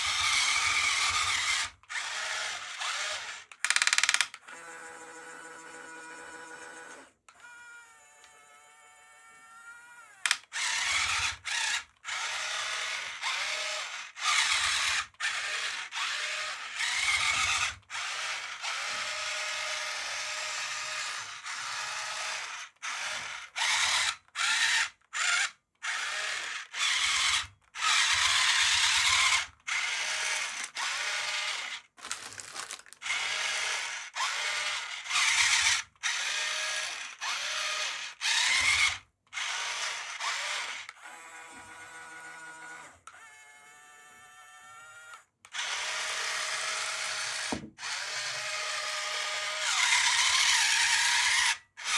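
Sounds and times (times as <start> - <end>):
toy motor whirring: 0.0 - 51.9.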